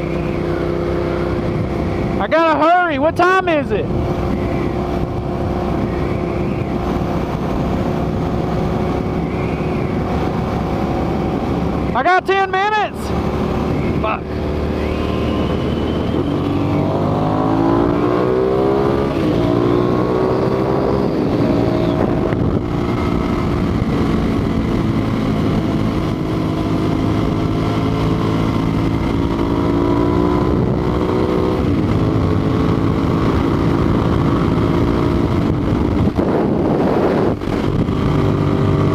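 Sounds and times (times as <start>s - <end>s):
motorcycle engine revving: 0.0s - 3.1s, 3.7s - 12.1s, 12.9s - 38.9s
wind noise: 0.0s - 12.0s, 12.9s - 38.9s.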